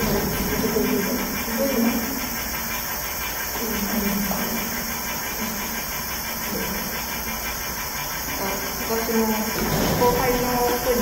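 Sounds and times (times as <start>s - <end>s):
air conditioning hiss: 0.0s - 11.0s.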